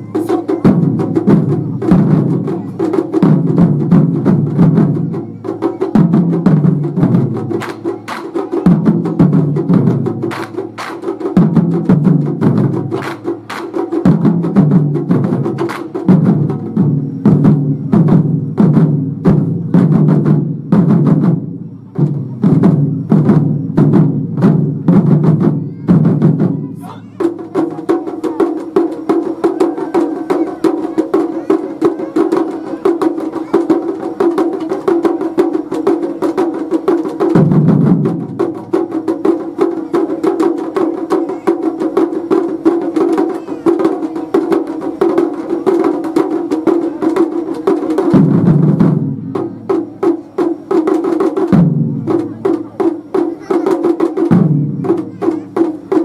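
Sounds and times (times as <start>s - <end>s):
taiko drum ensemble playing: 0.0s - 56.0s.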